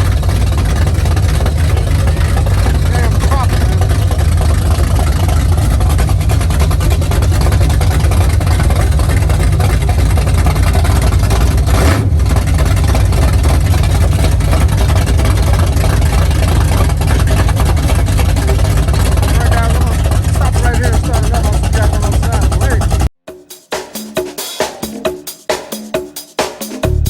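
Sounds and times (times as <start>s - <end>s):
car engines running: 0.0s - 23.1s.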